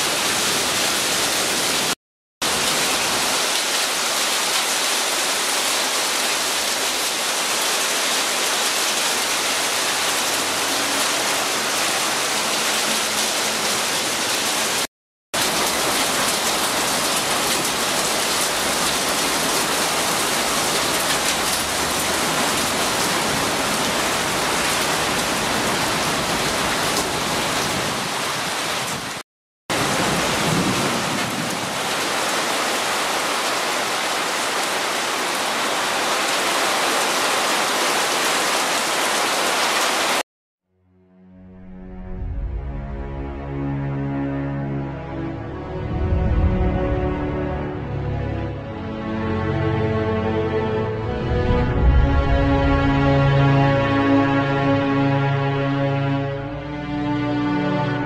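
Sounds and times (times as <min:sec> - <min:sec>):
heavy rain pouring: 0:00.0 - 0:40.2, 0:50.6 - 0:57.7.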